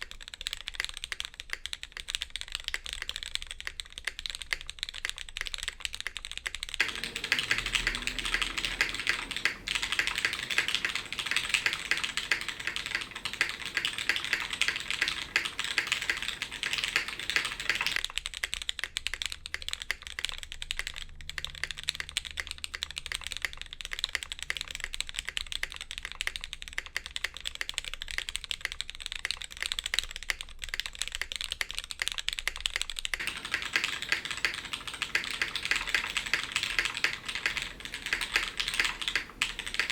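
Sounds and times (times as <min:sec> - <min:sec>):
mechanical keyboard key clacks: 0:00.0 - 0:39.9.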